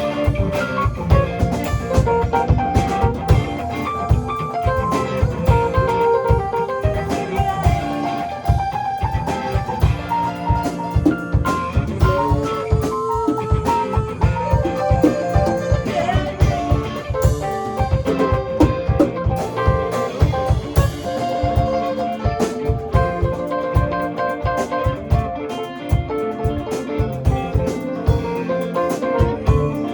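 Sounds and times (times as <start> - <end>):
drum kit beat: 0.0 - 29.9
guitar playing melodic lines: 0.0 - 29.9.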